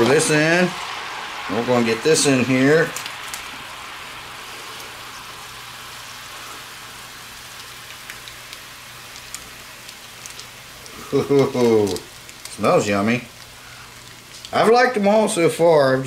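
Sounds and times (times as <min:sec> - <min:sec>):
water boiling and sizzling in wok: 0:00.0 - 0:16.0.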